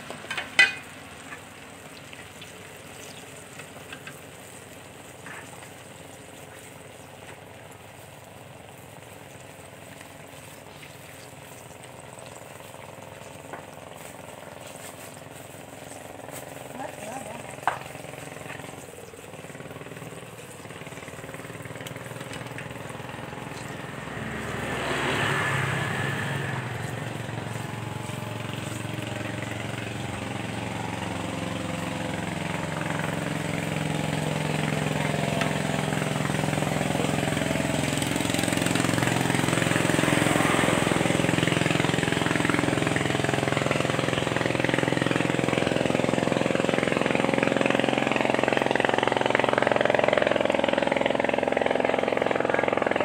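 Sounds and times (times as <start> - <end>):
hot oil sizzling: 0.0 - 53.0
low engine-like hum: 0.0 - 53.0.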